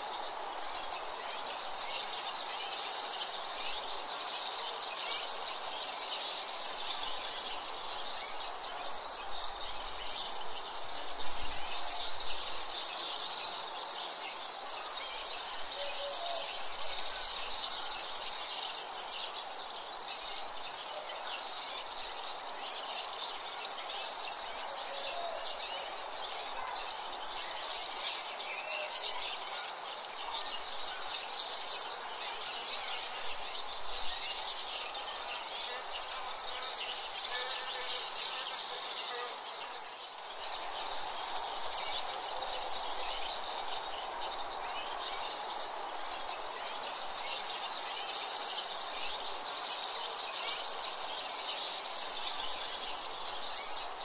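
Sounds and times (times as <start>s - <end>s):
bird chirps and calls: 0.0s - 54.0s
high-pitched insect chorus: 0.0s - 54.0s.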